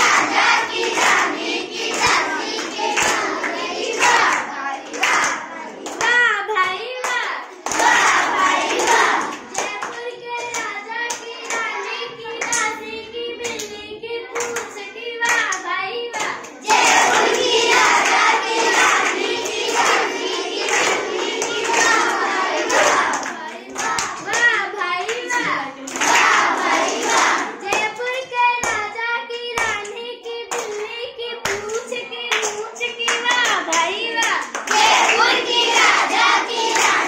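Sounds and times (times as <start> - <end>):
children singing together: 0.0 - 37.0.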